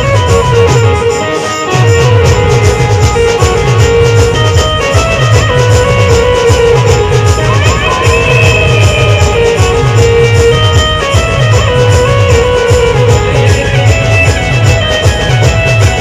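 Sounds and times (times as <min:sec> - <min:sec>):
fast drum beat: 0:00.0 - 0:16.0
sustained melody line: 0:00.0 - 0:16.0.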